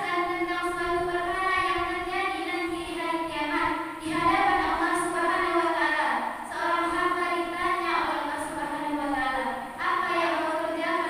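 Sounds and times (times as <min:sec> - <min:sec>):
girl singing into microphone: 0:00.0 - 0:11.0.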